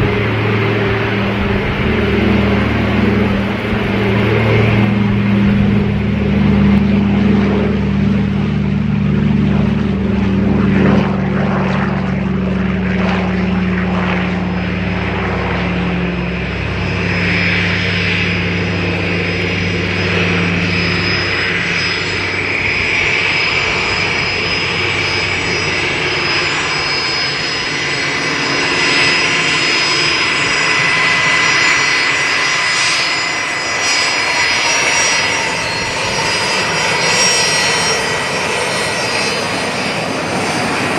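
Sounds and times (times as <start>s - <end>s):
jet engine whine: 0.0s - 40.9s
propeller engine drone: 0.0s - 40.9s.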